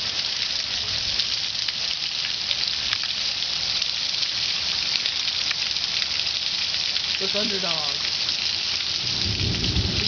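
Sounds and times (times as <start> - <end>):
heavy rain hissing: 0.0 - 10.0
raindrop ticks: 1.2 - 10.0.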